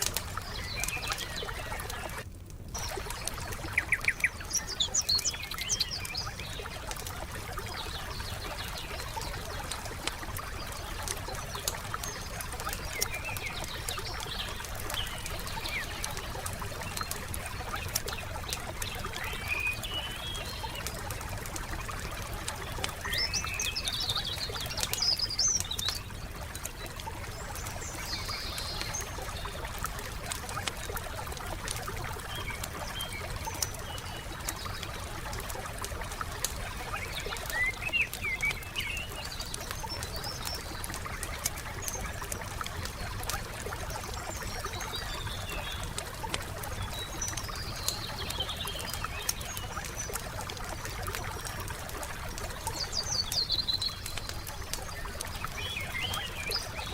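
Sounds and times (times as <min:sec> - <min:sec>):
small birds chirping: 0:00.0 - 0:56.9
wood fire crackling: 0:00.0 - 0:56.9.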